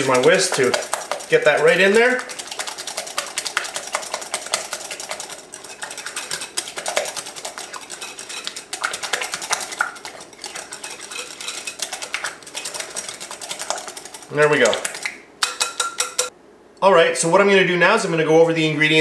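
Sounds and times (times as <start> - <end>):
wire whisk clicking against glass bowl: 0.0 - 16.3.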